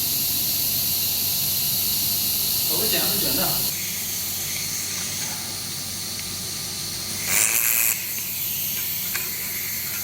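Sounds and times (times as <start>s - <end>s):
machine hiss and hum: 0.0s - 10.0s
small motor whirring: 0.0s - 10.0s.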